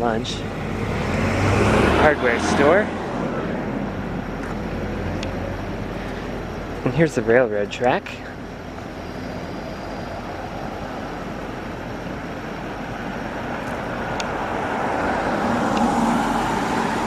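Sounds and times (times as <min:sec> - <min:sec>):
car driving: 0:00.0 - 0:17.0
road and engine noise: 0:00.0 - 0:17.0.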